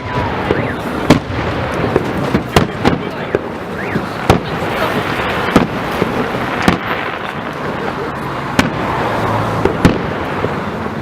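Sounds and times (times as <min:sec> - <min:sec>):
firework shells bursting: 0:00.0 - 0:10.6
fireworks crackling: 0:00.0 - 0:11.0.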